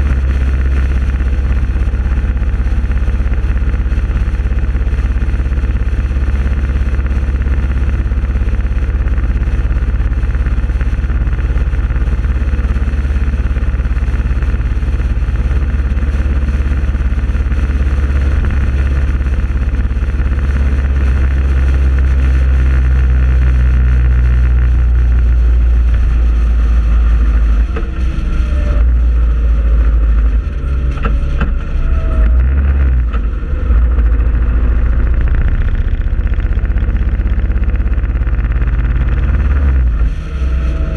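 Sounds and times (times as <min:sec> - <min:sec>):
vehicle engine and road noise: 0:00.0 - 0:40.9
wind rumble on microphone: 0:00.0 - 0:40.9.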